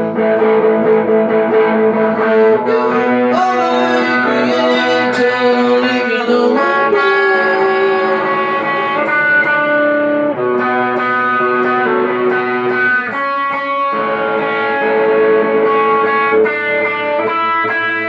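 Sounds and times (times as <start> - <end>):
guitar chords ringing: 0.0 - 18.0.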